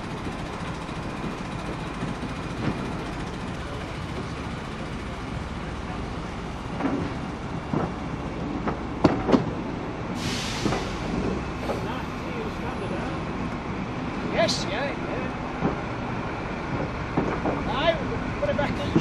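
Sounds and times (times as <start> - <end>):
wheels clicking over track: 0.0 - 10.0, 13.4 - 19.0
railway vans rumbling past: 0.0 - 19.0.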